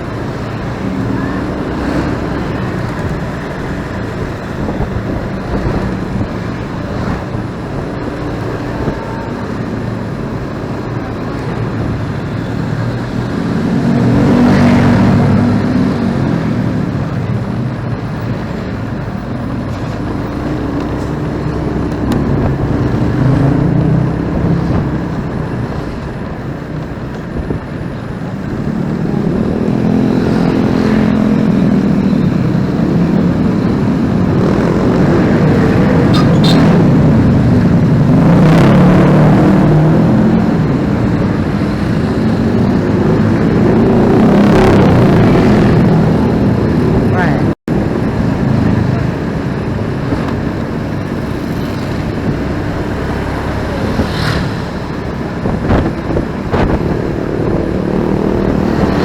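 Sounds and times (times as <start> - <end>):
motorcycle engine revving: 0.0 - 59.0
passing vehicles: 0.0 - 59.0.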